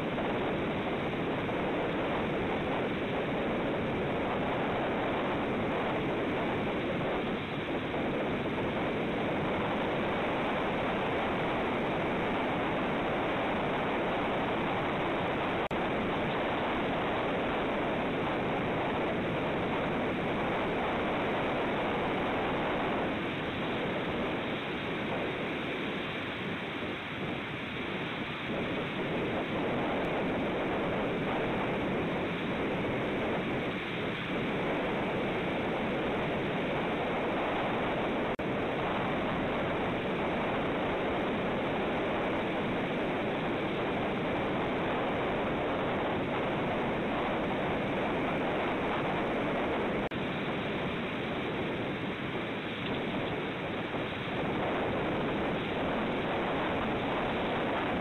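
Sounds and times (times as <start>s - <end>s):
steady rushing outdoor noise: 0.0s - 58.0s.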